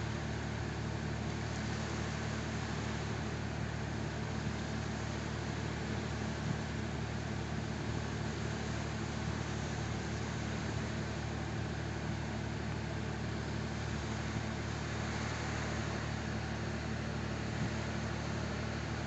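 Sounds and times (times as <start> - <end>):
engine humming: 0.0 - 19.0
small waves washing onto beach: 0.0 - 19.0.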